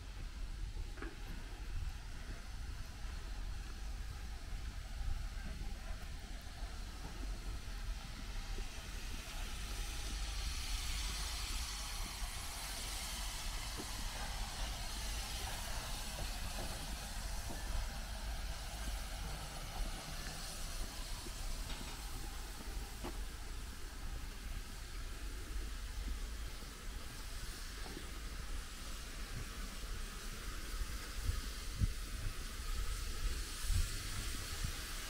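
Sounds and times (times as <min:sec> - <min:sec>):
steam hissing: 0:00.0 - 0:35.0.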